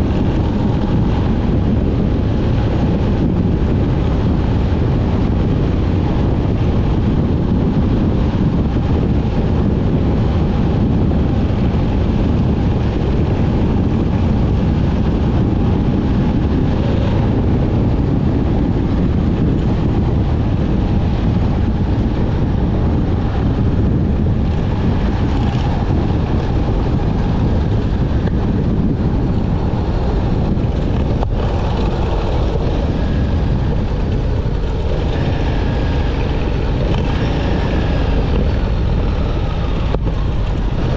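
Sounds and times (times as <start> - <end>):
motorcycle engine running: 0.0 - 40.9
wind rushing on microphone: 0.0 - 40.9.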